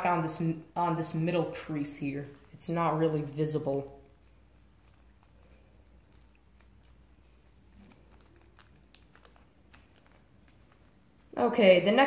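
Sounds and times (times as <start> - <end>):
paper being folded: 1.2 - 11.4.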